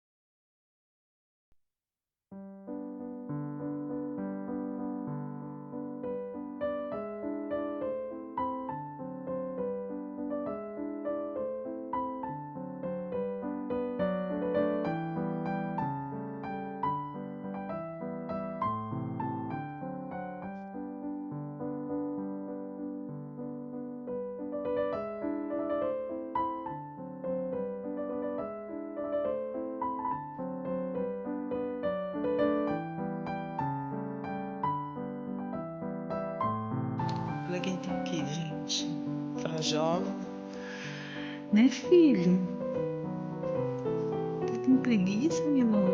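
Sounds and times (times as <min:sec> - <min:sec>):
soft slow piano music: 0:02.4 - 0:45.9.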